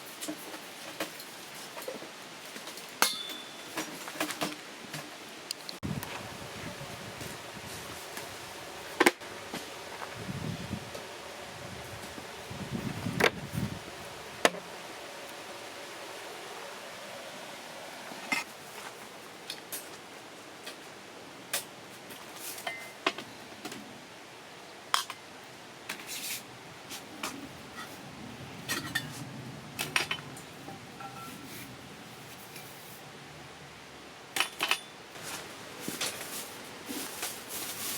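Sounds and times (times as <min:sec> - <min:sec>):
faint steady hum: 0:00.0 - 0:37.9.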